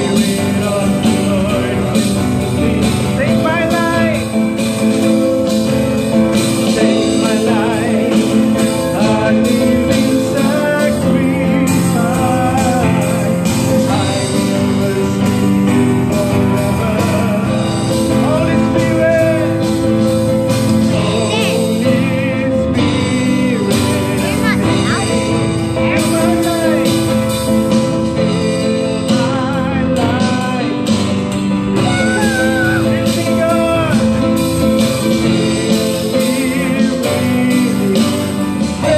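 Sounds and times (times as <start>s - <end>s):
keyboard playing: 0.0s - 38.9s
man singing: 0.0s - 38.9s
strummed acoustic guitar: 0.0s - 38.9s.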